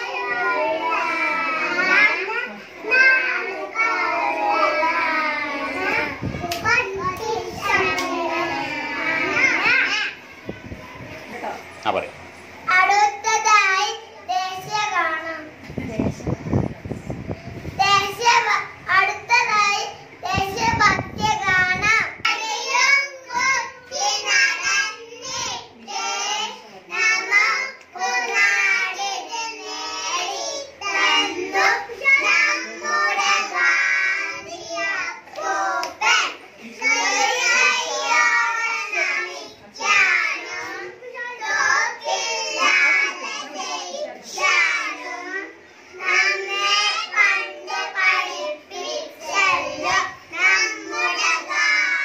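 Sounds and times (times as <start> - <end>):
young children singing: 0.0 - 11.1, 17.6 - 52.0.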